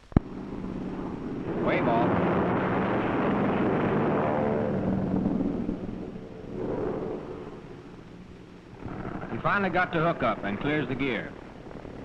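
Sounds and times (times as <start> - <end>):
noisy rush: 0.0 - 12.0
propeller aircraft engines: 0.0 - 12.0.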